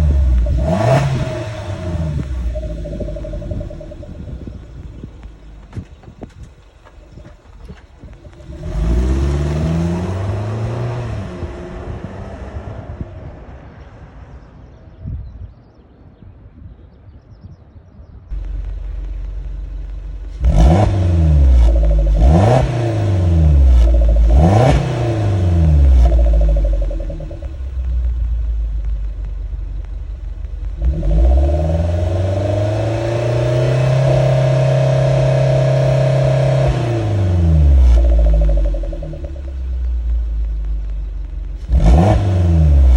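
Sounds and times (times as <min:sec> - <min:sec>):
car engine idling and revving: 0:00.0 - 0:14.6, 0:18.3 - 0:42.9.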